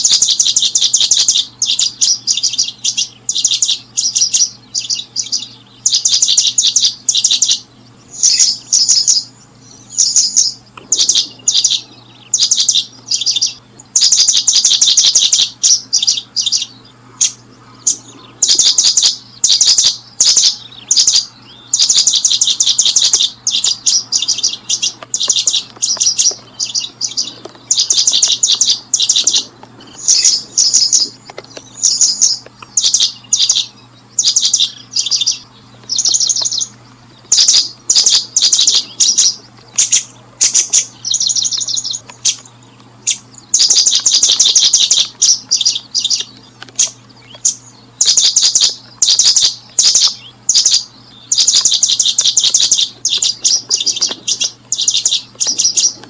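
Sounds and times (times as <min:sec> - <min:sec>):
faint low hum: 0:00.0 - 0:56.0
small birds chirping: 0:00.0 - 0:56.0.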